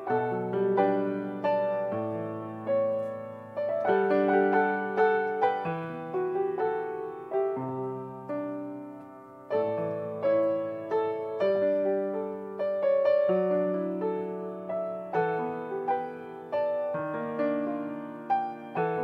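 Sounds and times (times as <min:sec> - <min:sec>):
grand piano playing: 0:00.0 - 0:19.0.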